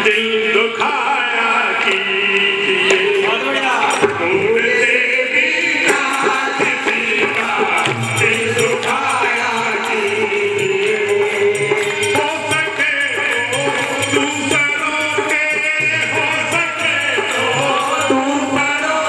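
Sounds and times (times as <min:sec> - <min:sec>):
harmonium: 0:00.0 - 0:19.0
jingling percussion: 0:00.0 - 0:19.0
men singing a hymn: 0:00.0 - 0:19.0.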